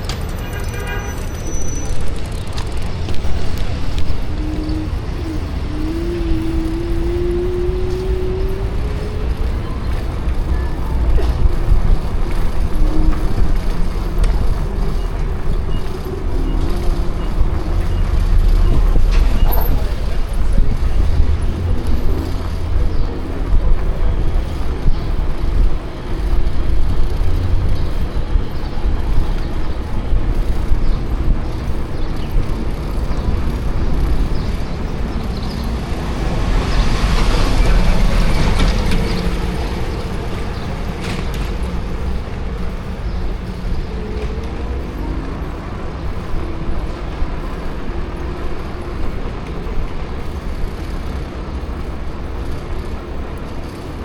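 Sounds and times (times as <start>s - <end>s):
passing vehicles rumble: 0.0s - 54.0s
loud vehicle passing: 1.2s - 54.0s.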